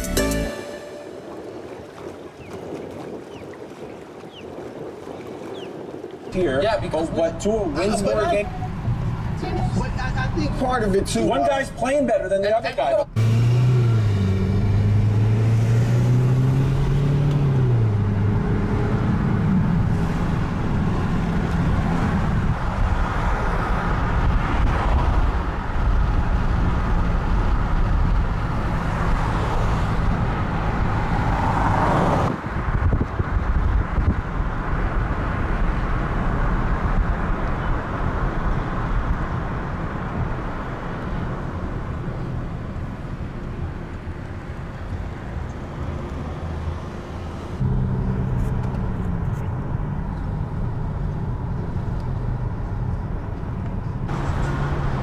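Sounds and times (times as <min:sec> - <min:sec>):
road noise: 0:00.0 - 0:55.0
vehicle engine: 0:06.7 - 0:11.8, 0:13.1 - 0:55.0.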